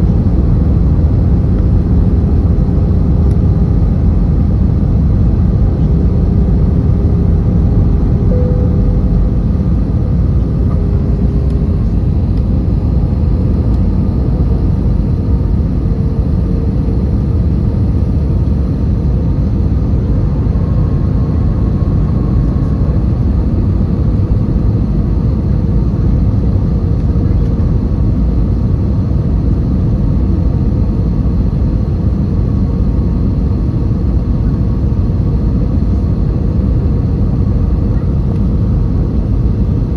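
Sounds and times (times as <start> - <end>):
airliner cabin engine rumble: 0.0 - 39.9
faint engine tones: 0.0 - 39.9.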